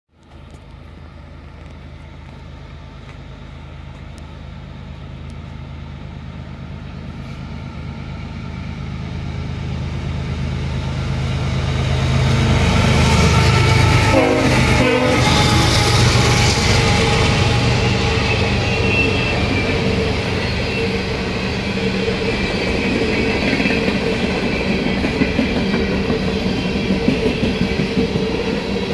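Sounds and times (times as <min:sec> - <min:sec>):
diesel locomotive engines rumbling: 0:00.2 - 0:28.9.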